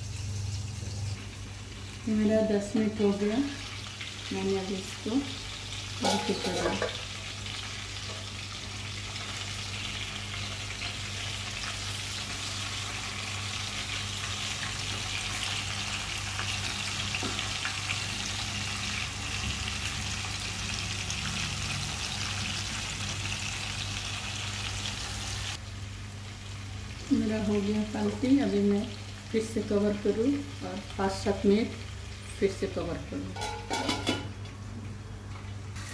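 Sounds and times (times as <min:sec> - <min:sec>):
chicken sizzling in hot oil: 0:00.0 - 0:34.3.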